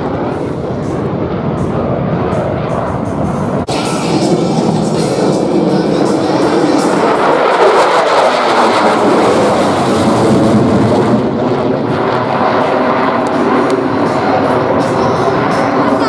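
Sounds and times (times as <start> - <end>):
fighter jet flying overhead: 0.0 - 16.0.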